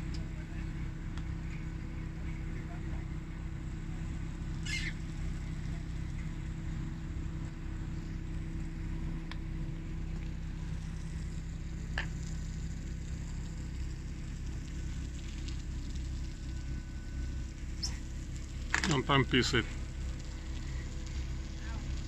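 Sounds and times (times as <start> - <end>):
constant tone: 0.0 - 22.0
low machinery hum: 0.0 - 22.0.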